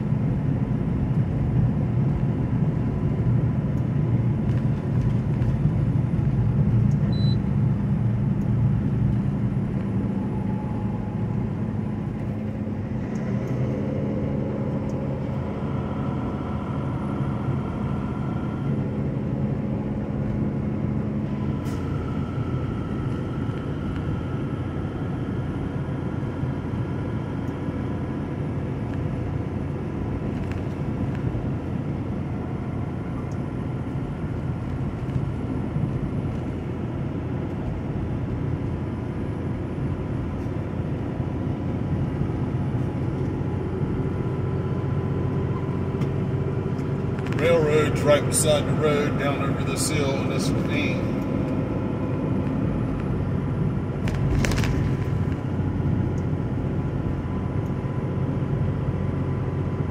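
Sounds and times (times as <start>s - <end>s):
truck engine hum: 0.0s - 59.9s
tyre and road noise: 0.0s - 59.9s.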